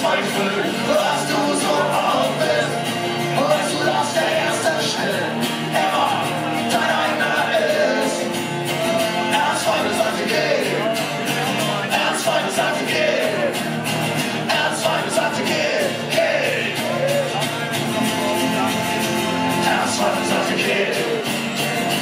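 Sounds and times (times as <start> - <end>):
man singing: 0.0 - 22.0
strummed acoustic guitars: 0.0 - 22.0.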